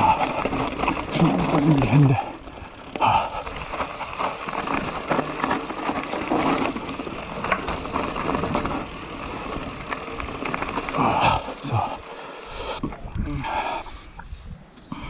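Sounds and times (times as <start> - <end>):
bike tyres crunching over gravel: 0.0 - 13.1
bike clicks and knocks over bumps: 0.0 - 13.2.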